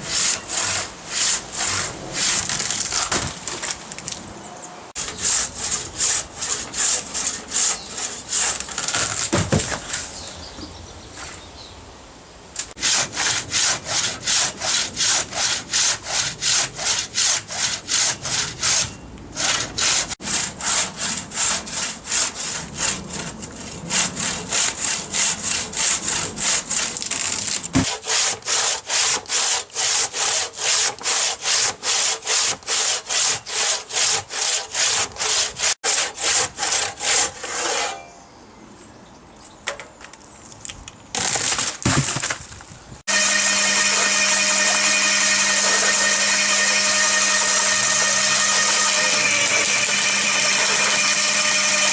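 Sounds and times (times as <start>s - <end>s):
hand saw cutting wood: 0.0s - 3.8s, 5.0s - 10.2s, 12.7s - 38.1s, 43.0s - 51.9s.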